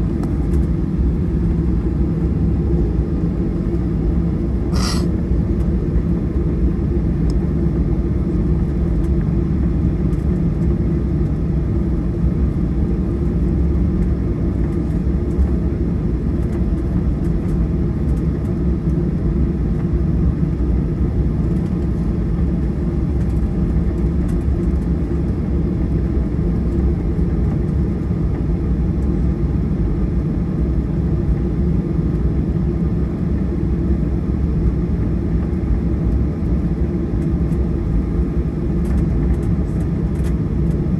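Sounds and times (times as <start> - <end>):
jet engines low rumble: 0.0 - 40.9.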